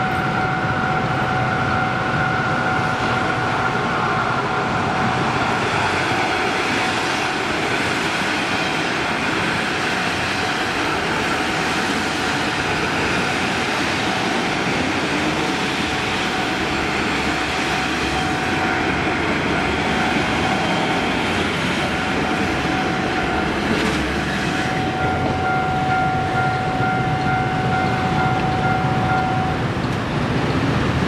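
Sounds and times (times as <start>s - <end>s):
crossing warning bell ringing: 0.0s - 8.0s, 9.8s - 30.0s
train wheels rumbling on rails: 0.0s - 31.0s.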